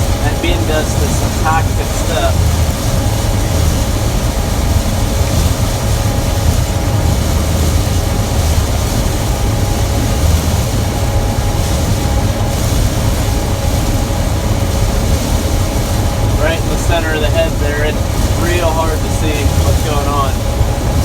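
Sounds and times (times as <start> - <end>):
combine harvester drone: 0.0 - 21.0
faint steady whine: 0.0 - 21.0.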